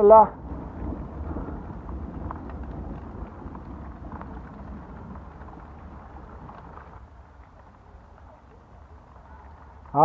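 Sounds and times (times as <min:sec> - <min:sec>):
heavy rain falling: 0:00.0 - 0:10.0
low rumble: 0:00.0 - 0:10.0
raindrops ticking: 0:00.0 - 0:10.0.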